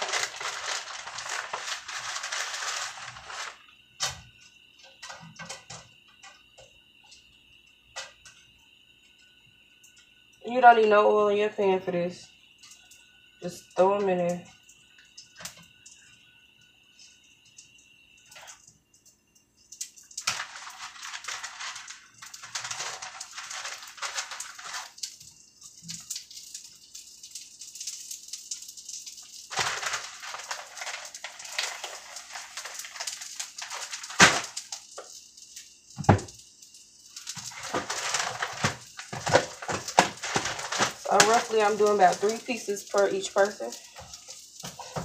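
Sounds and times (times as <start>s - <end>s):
bacon sizzling in a frying pan: 0.0s - 45.0s.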